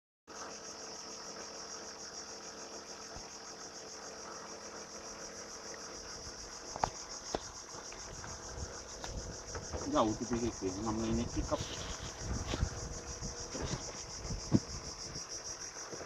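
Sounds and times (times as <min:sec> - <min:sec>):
insect chorus trilling: 0:00.3 - 0:16.0.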